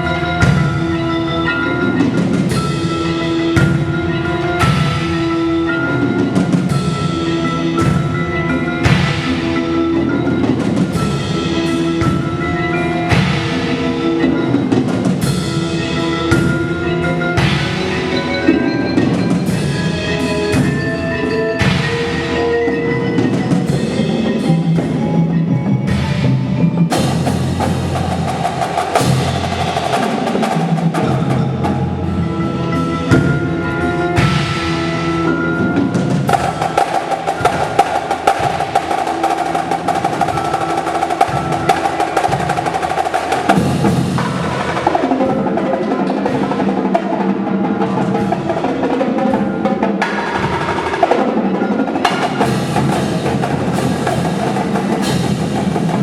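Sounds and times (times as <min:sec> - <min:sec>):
marching drums playing: 0:00.0 - 0:25.0, 0:25.8 - 0:56.0
marimba and bells: 0:00.0 - 0:56.0.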